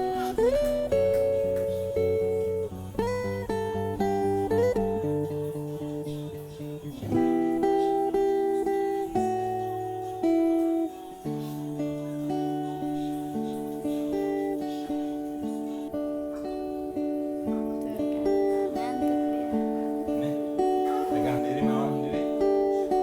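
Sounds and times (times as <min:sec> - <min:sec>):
fingerstyle acoustic guitar melody: 0:00.0 - 0:23.0.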